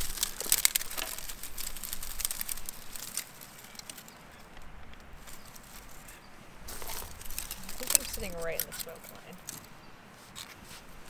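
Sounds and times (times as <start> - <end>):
twigs crackling and snapping: 0.0 - 9.8.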